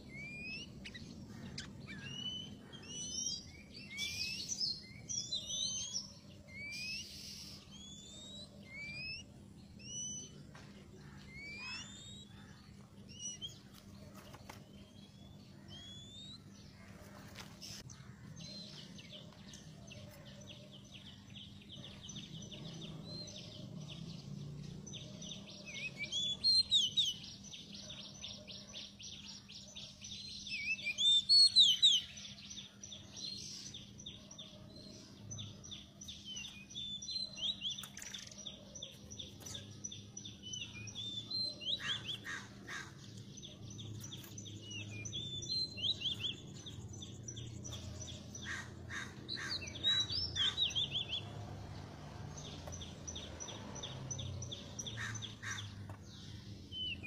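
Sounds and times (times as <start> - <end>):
birds whistling and chattering: 0.0 - 57.0.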